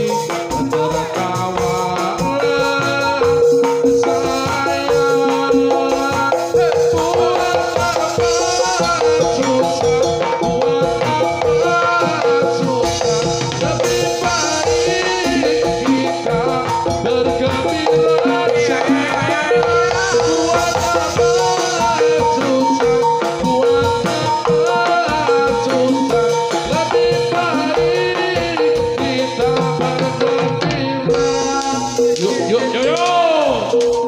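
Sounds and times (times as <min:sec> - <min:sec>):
hand drums beating: 0:00.0 - 0:34.0
metallophones repeating pitched notes: 0:00.0 - 0:34.0.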